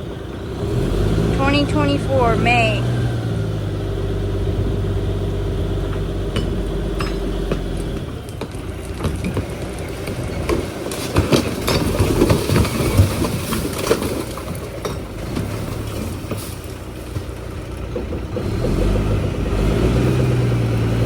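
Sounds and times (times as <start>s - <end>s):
truck engine running: 0.0s - 21.0s
trash clattering out of truck: 2.6s - 21.0s.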